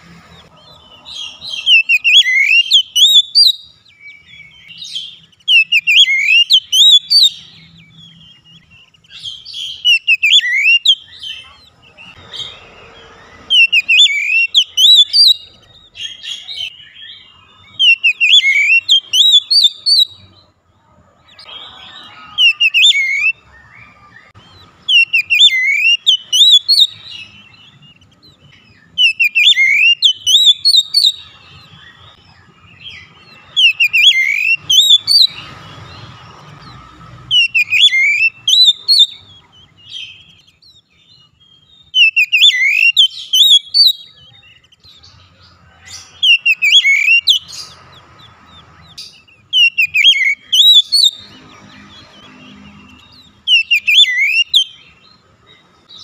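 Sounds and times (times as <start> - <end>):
bird whistled song: 0.3 - 20.4, 21.3 - 45.2, 45.8 - 56.0.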